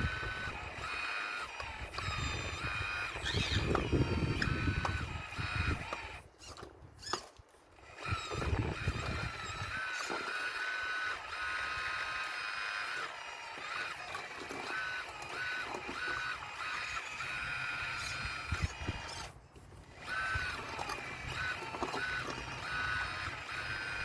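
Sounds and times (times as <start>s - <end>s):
model excavator motor whining: 0.0s - 24.0s.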